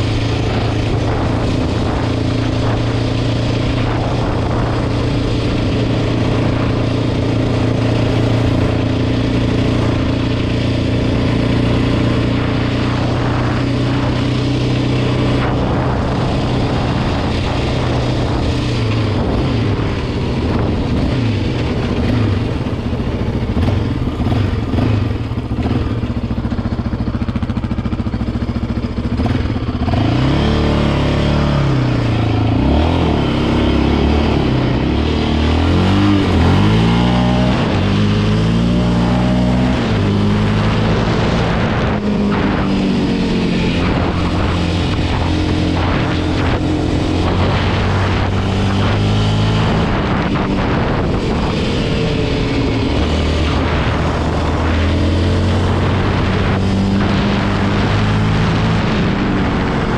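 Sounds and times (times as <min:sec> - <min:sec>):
atv engine running: 0:00.0 - 0:59.9
tyres on gravel road: 0:00.0 - 0:59.9.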